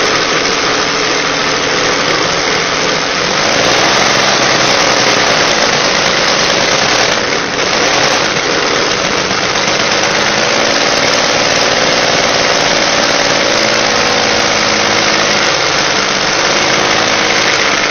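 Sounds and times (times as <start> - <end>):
aircraft engine running: 0.0 - 17.9.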